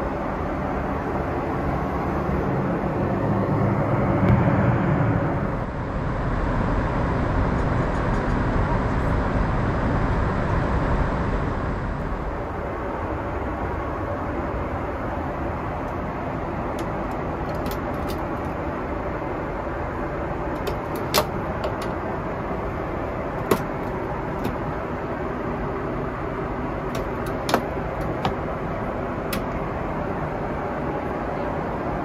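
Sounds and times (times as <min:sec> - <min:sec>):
airplane cabin noise: 0:00.0 - 0:32.0.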